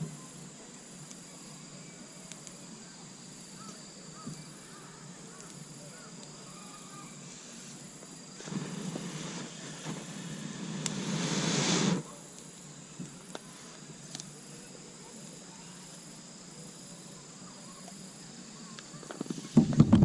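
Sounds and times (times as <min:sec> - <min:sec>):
insects trilling: 0:00.0 - 0:20.0
rising hiss: 0:00.0 - 0:20.0.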